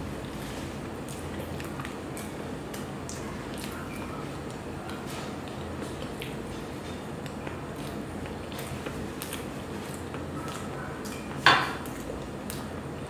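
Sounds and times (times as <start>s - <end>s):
chewing soft donut: 0.0s - 13.0s.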